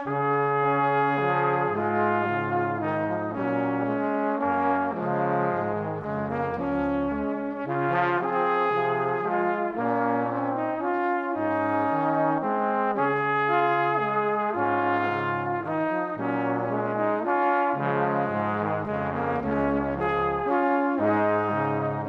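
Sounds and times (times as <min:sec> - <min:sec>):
brass background music: 0:00.0 - 0:22.0.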